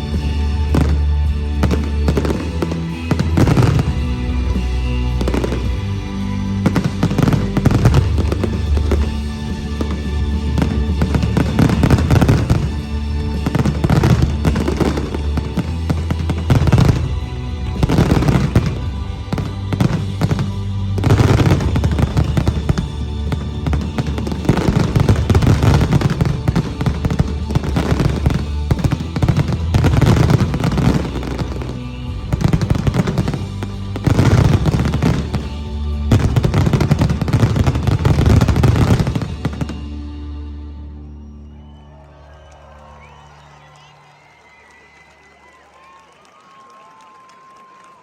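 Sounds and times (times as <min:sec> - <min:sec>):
fireworks bursting and crackling: 0:00.0 - 0:40.6
music soundtrack: 0:00.0 - 0:47.0.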